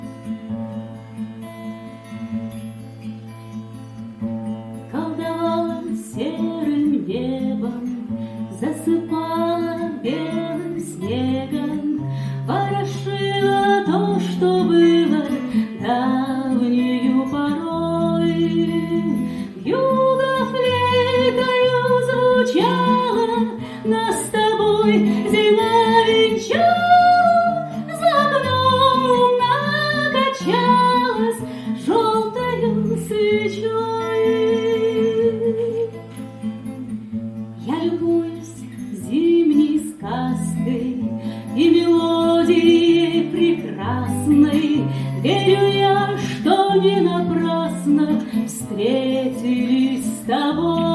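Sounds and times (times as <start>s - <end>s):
acoustic guitar: 0.0s - 50.9s
woman singing wordless melody: 4.8s - 50.9s.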